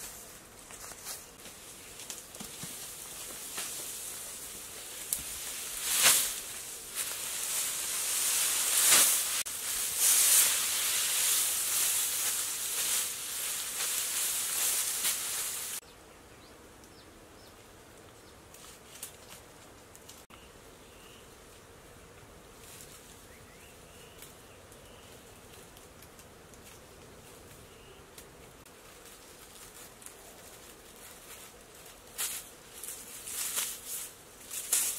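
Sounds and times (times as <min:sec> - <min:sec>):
dry grass thatch rustling: 0:00.0 - 0:15.8, 0:22.6 - 0:34.9.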